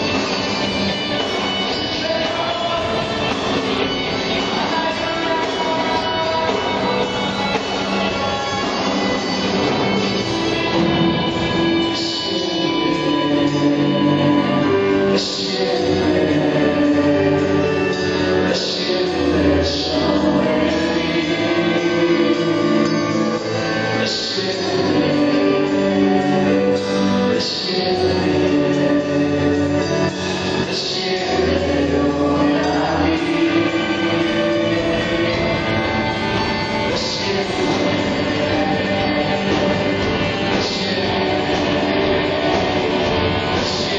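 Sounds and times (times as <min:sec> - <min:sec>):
band with guitar and drums: 0:00.0 - 0:43.9
voices singing together: 0:00.0 - 0:43.9.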